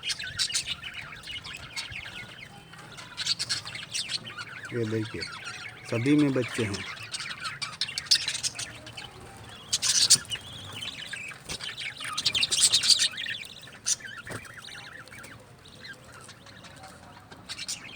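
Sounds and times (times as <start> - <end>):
budgerigars chirping: 0.0 - 17.9.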